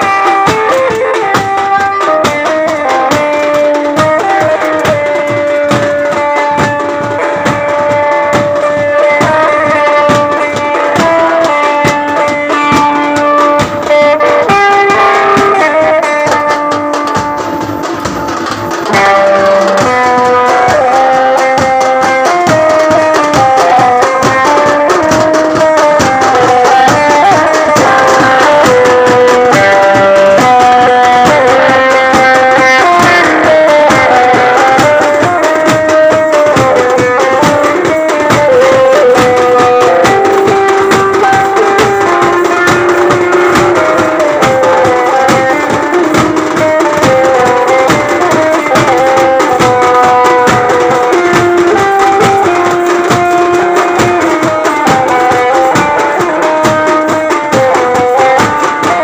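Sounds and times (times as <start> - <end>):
drum band playing fast strokes: 0.0 - 59.0.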